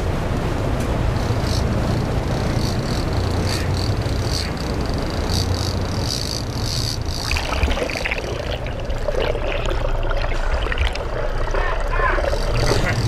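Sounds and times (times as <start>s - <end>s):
boat engine running: 0.0s - 13.0s
water rushing past hull: 0.0s - 13.0s
high pulsing whine: 0.5s - 13.0s.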